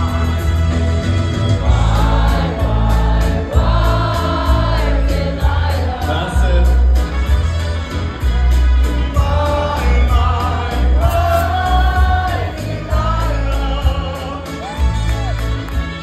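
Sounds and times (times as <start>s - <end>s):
backing music with heavy bass: 0.0s - 16.0s.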